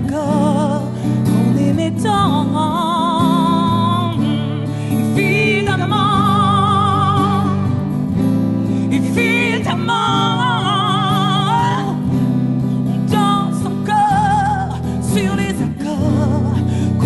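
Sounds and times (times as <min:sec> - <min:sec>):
strummed acoustic guitar: 0:00.0 - 0:17.0
woman singing slow song: 0:00.0 - 0:17.0.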